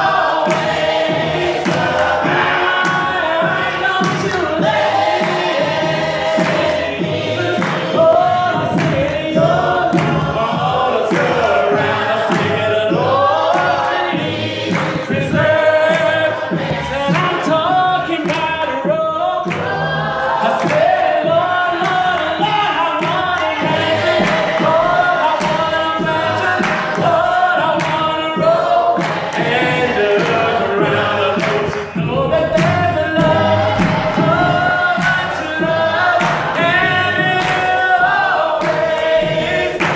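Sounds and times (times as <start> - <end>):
steady beat of sharp strikes: 0.0 - 19.8, 20.5 - 39.9
congregation singing a gospel song: 0.0 - 39.9.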